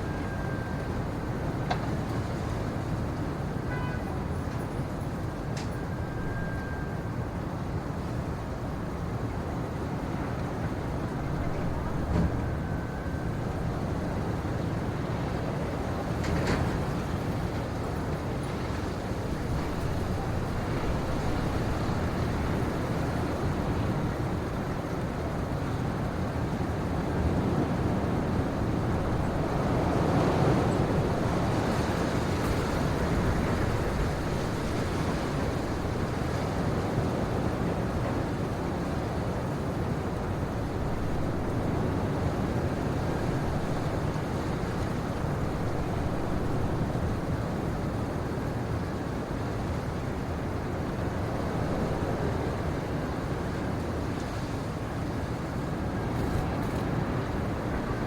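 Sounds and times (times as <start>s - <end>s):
wind in pine forest: 0.0s - 58.0s.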